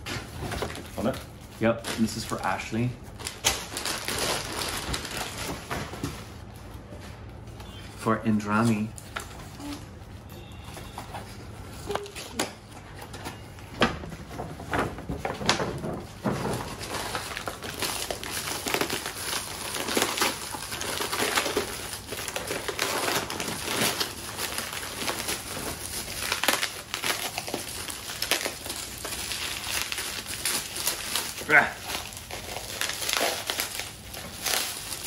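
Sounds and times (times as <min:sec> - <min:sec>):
plastic and paper wrapping crinkling: 0:00.0 - 0:35.0.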